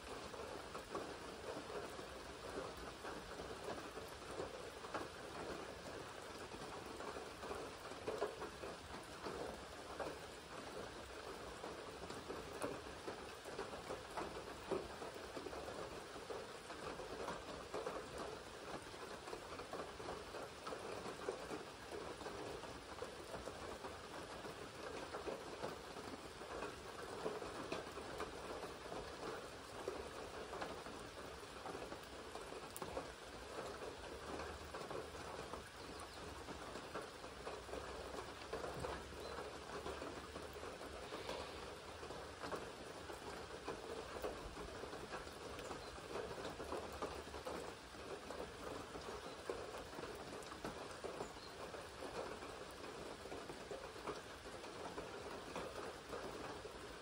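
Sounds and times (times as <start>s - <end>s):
rain falling on a lake: 0.0s - 57.0s.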